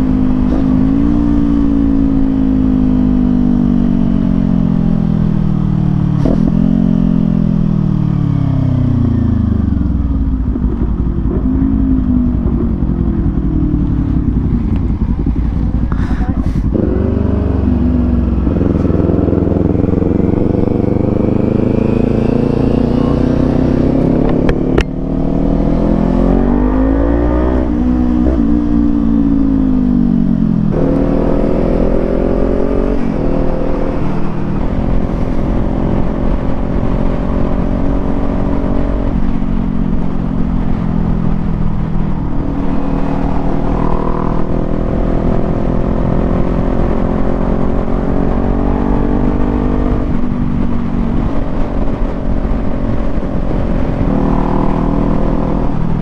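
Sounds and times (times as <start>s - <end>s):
low rumble of wind: 0.0s - 56.0s
motorcycle engine revving: 0.0s - 56.0s.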